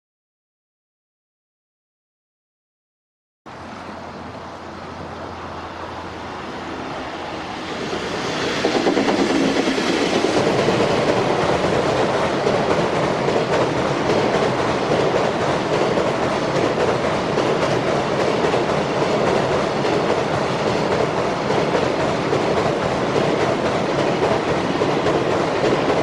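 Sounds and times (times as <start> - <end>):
freight train passing: 3.5 - 26.0.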